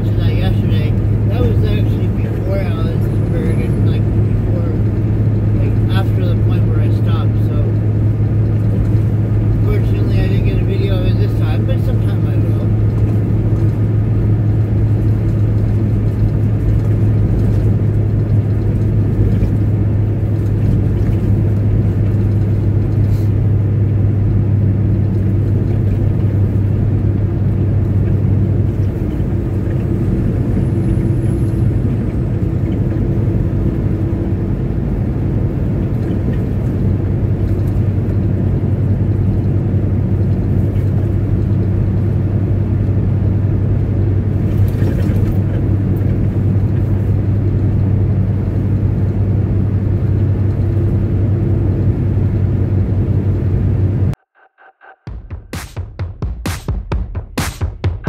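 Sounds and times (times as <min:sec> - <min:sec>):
diesel truck engine droning: 0:00.0 - 0:55.3
road noise: 0:00.0 - 0:58.0.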